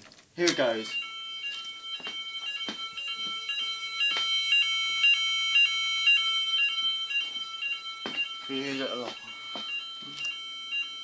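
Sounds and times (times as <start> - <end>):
electronic fire alarm tones: 0.4 - 11.0.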